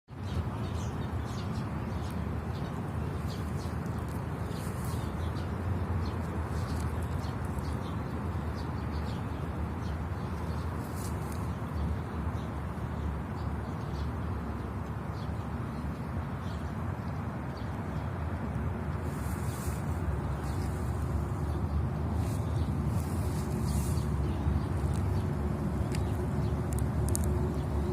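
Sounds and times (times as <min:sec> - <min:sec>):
birds chirping: 0:00.1 - 0:27.9.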